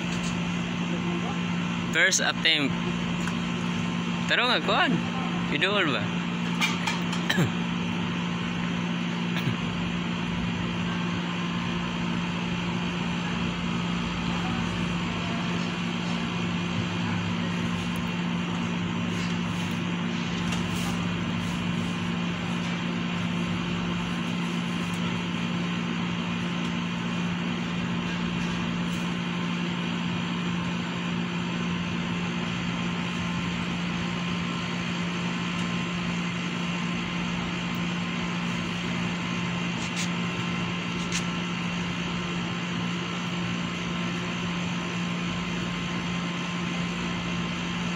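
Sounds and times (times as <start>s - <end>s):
steady machine hum: 0.0s - 47.9s.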